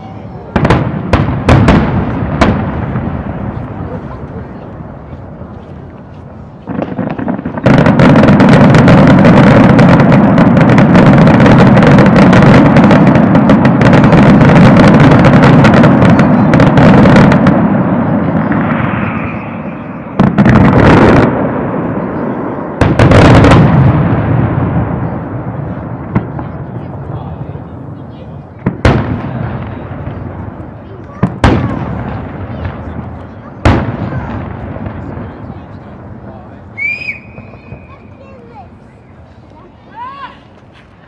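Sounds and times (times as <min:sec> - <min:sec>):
fireworks bangs and crackle: 0:00.0 - 0:41.0.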